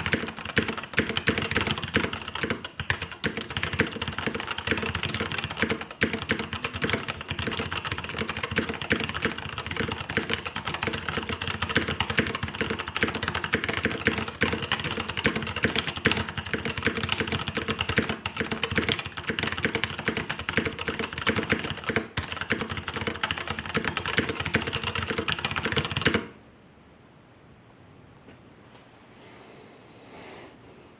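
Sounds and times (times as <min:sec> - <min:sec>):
fast typing on mechanical keyboard: 0:00.0 - 0:26.4.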